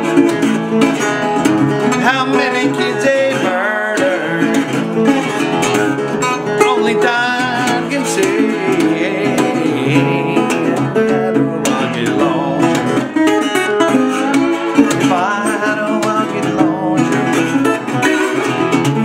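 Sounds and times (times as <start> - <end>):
acoustic guitar played with a pick: 0.0 - 19.0.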